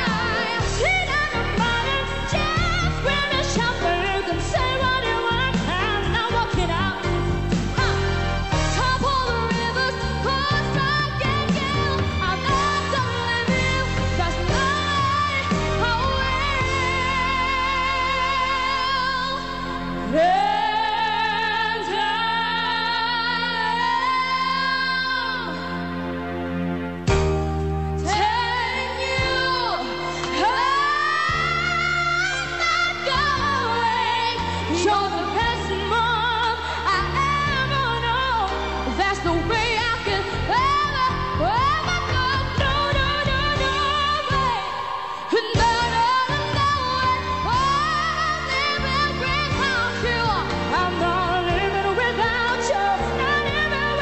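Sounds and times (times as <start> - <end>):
high voice singing pop song: 0.0 - 27.3, 28.0 - 54.0
instrumental backing: 0.0 - 54.0
sustained musical accompaniment: 0.0 - 54.0.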